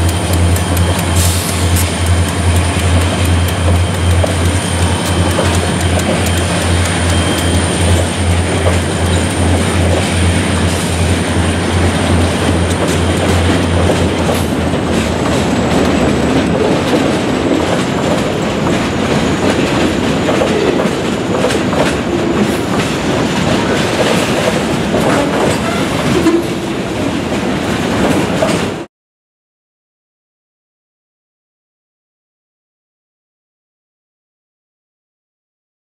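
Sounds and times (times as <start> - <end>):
diesel locomotive engines droning: 0.0 - 28.9
train wheels clacking over rails: 0.0 - 28.9.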